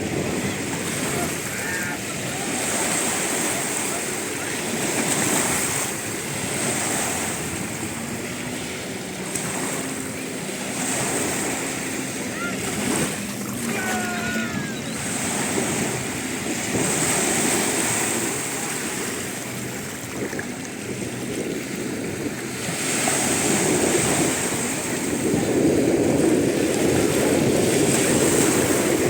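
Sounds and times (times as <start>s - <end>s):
sea surf washing in: 0.0s - 29.0s
wind buffeting microphone: 0.0s - 29.0s.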